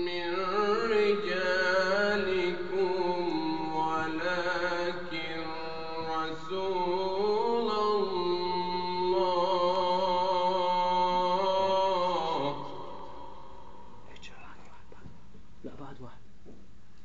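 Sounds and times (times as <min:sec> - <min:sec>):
man chanting melodically: 0:00.0 - 0:13.9.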